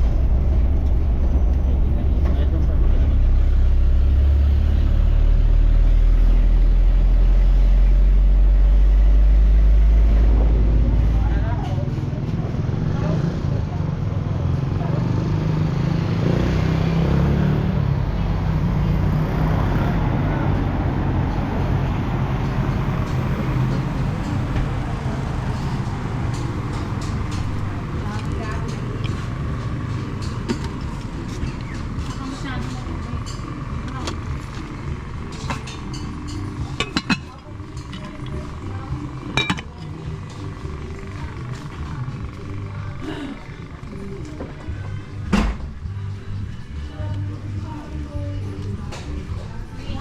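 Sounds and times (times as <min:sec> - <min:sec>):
road noise: 0:00.0 - 0:50.0
truck engine running: 0:00.0 - 0:50.0.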